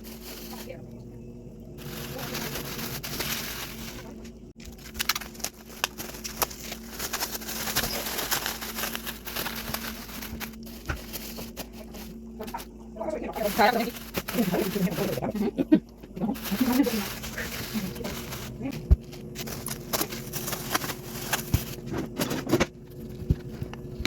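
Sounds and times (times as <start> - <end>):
plastic bags rustling and crinkling: 0.0 - 1.0, 1.6 - 24.0
low hum: 0.0 - 24.0.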